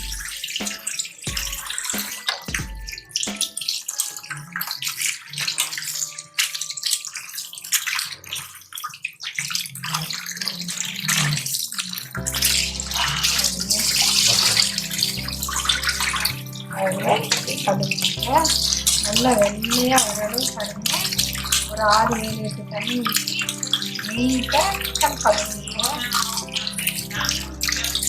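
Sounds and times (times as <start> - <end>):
rushing water: 0.0 - 28.0.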